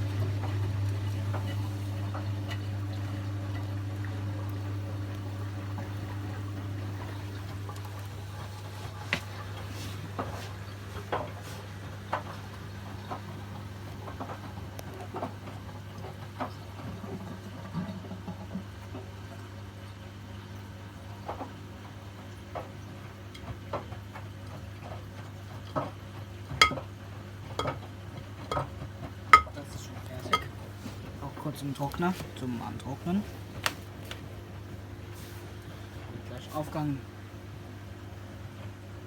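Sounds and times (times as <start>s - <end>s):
washing machines humming: 0.0s - 39.0s.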